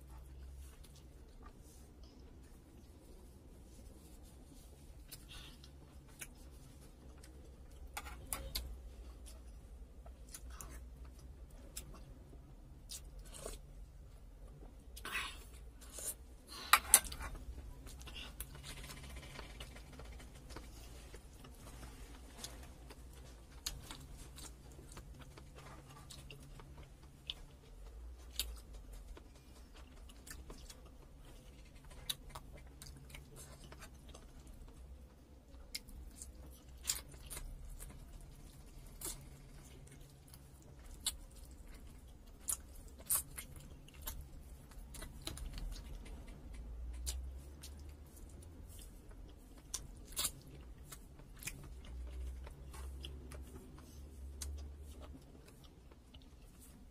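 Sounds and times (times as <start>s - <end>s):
person chewing: 0.0s - 56.9s.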